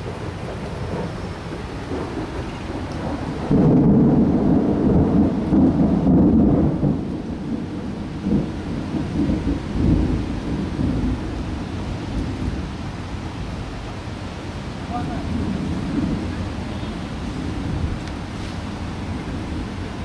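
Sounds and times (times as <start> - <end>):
rain falling: 0.0 - 20.0
rolling thunder: 0.0 - 20.0.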